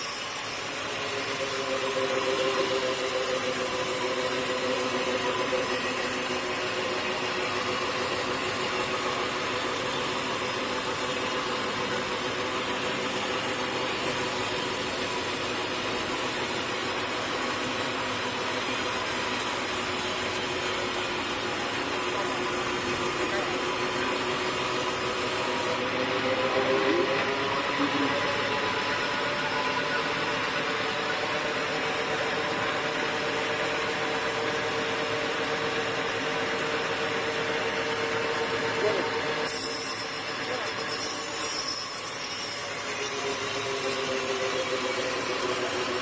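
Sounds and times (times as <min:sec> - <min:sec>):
sawmill motor hum: 0:00.0 - 0:46.0.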